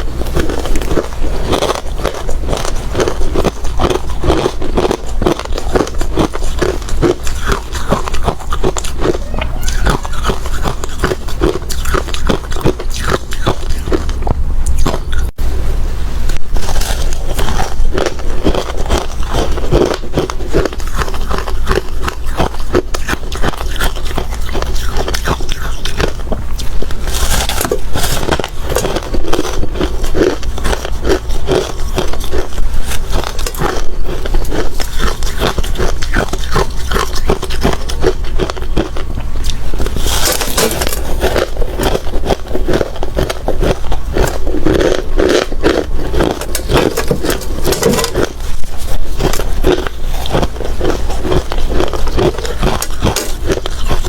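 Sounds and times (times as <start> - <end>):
person chewing hard ice: 0.0 - 15.4, 16.4 - 54.0
steady low hum: 0.0 - 54.0.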